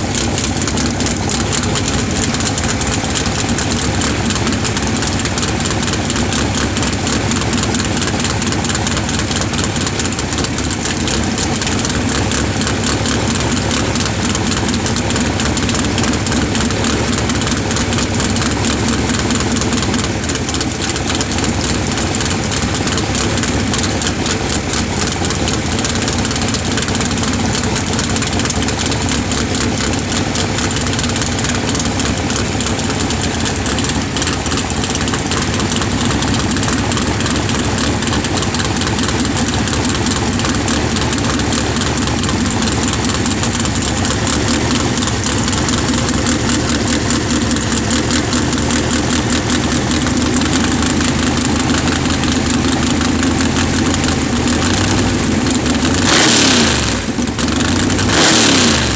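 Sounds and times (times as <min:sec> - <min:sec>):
race car engine idling: 0:00.0 - 0:58.9.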